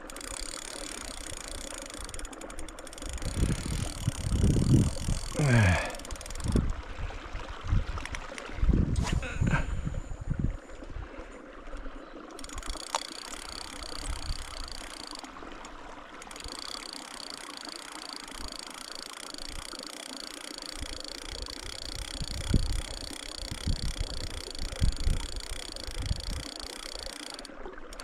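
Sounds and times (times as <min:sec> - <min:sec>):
fishing reel whirring: 0:00.0 - 0:07.0, 0:11.7 - 0:28.0.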